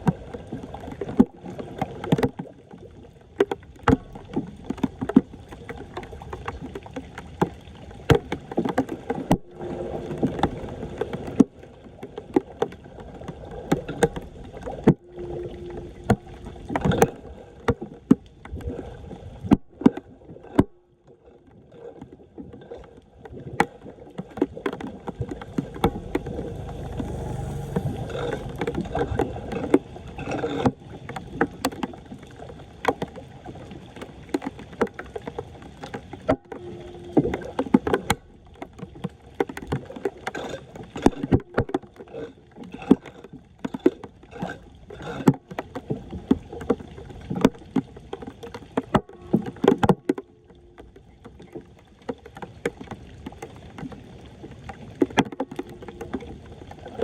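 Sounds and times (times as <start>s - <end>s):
floodwater splashing and sloshing: 0.0s - 57.0s.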